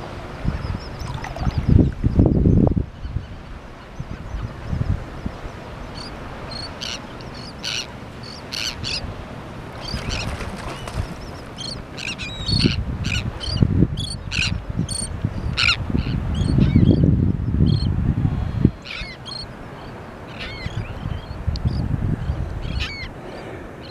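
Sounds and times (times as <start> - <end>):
seabirds calling: 0.3 - 17.9, 18.6 - 23.9.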